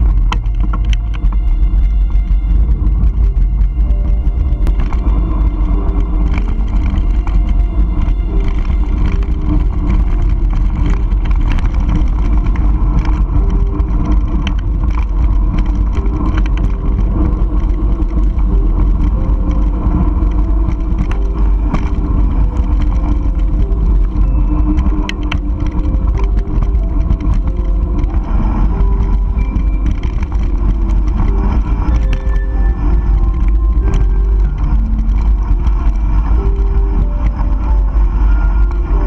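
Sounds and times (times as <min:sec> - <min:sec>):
bike clicks and rattles: 0:00.0 - 0:39.0
tyres on gravel: 0:00.0 - 0:39.0
wind rumble on microphone: 0:00.0 - 0:39.0.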